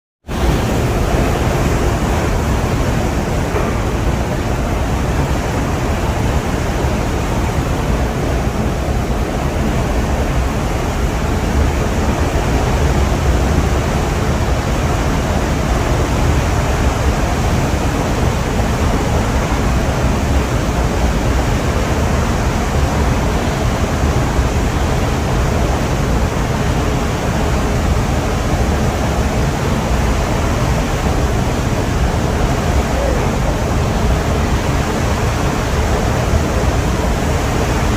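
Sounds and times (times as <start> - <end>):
sea: 0.2 - 37.9
wind: 0.2 - 37.9.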